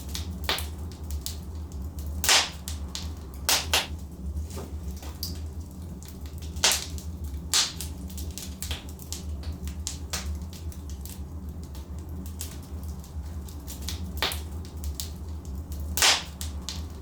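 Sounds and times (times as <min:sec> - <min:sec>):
logs crackling and popping: 0:00.0 - 0:17.0.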